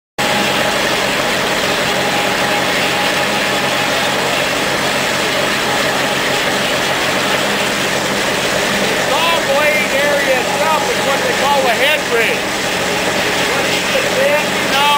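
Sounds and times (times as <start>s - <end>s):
broad rushing noise: 0.2s - 14.9s
low engine hum: 0.2s - 14.9s
thin whine: 0.2s - 14.9s.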